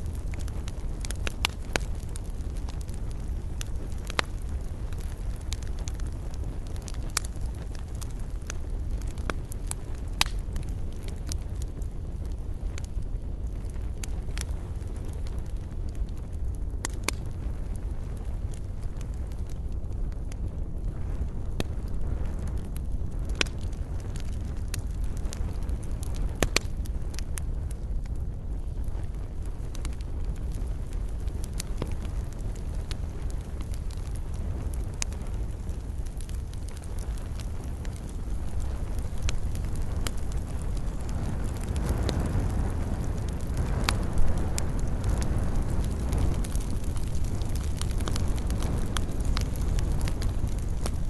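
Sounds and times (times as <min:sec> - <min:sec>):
burning wood crackling and popping: 0:00.0 - 0:51.0
campfire flames rumbling: 0:00.0 - 0:51.0.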